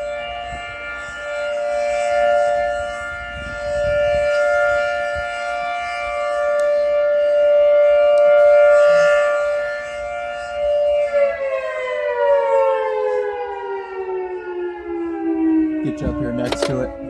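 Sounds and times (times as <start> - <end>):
two-tone warning siren: 0.0 - 17.0.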